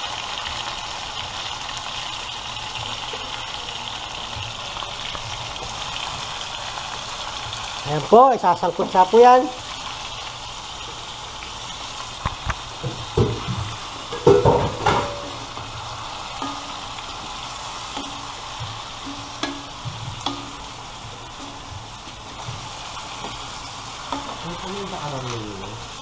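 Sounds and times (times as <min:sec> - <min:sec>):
food sizzling in a wok: 0:00.0 - 0:26.0.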